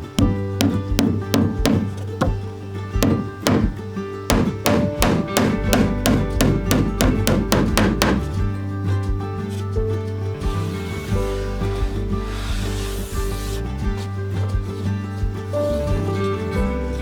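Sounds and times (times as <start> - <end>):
held bass: 0.0 - 17.0
plucked and strummed guitar: 0.0 - 17.0.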